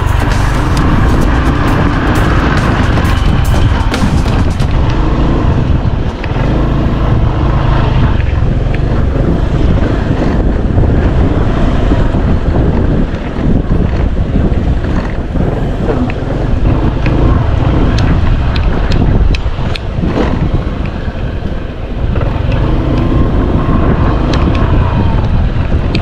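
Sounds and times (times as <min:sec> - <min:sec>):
motorcycle engine running: 0:00.0 - 0:26.0
wind rumbling on microphone: 0:00.0 - 0:26.0.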